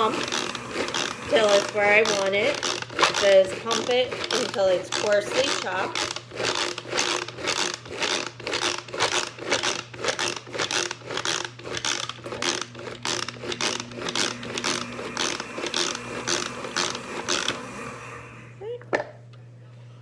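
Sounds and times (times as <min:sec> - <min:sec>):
manual food chopper pumping: 0:00.0 - 0:18.8.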